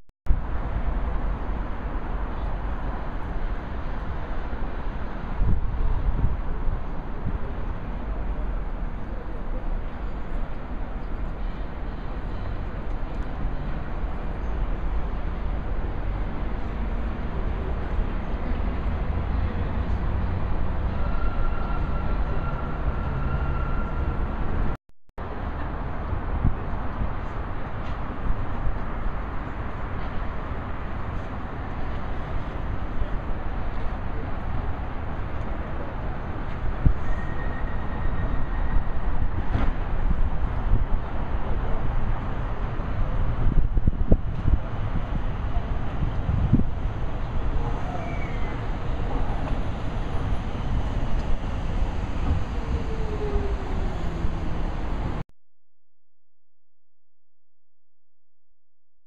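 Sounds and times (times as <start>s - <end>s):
train rumbling on track: 0.4s - 24.8s, 25.4s - 55.2s.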